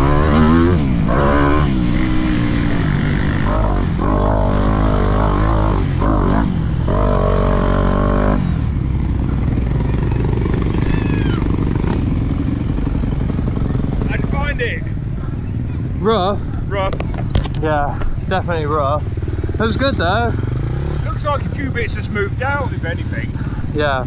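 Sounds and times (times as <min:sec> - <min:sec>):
motocross bike engine revving: 0:00.0 - 0:15.0, 0:18.3 - 0:24.0.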